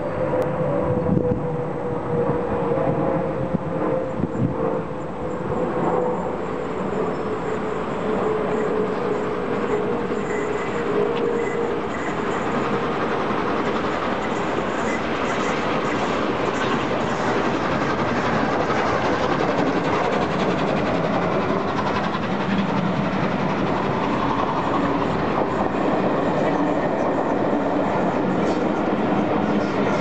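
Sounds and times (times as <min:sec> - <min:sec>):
train rushing past: 0:00.0 - 0:30.0
train wheels on track: 0:00.0 - 0:30.0.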